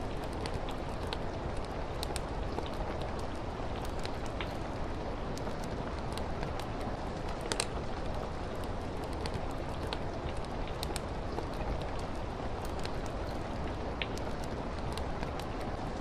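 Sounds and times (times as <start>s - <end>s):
steady rain hiss: 0.0s - 16.0s
wood fire crackling: 0.0s - 16.0s.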